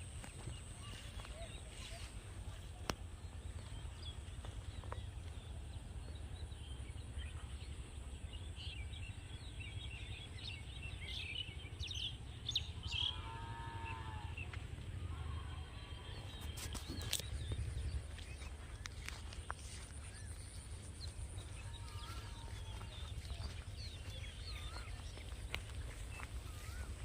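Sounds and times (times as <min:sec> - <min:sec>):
small birds chirping: 0:00.0 - 0:14.9, 0:15.8 - 0:27.0
steady low rumble: 0:00.0 - 0:27.0.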